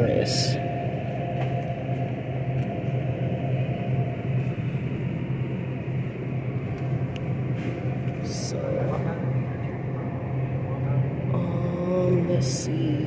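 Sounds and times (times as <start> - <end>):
refrigeration hum: 0.0 - 13.0.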